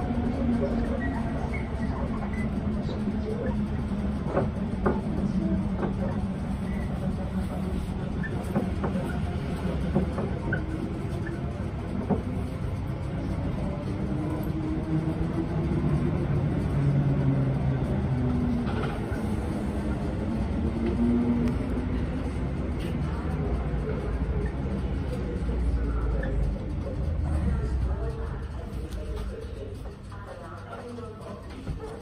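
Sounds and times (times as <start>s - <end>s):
train motor hum: 0.0s - 32.0s
train wheels rumbling on rails: 0.0s - 32.0s.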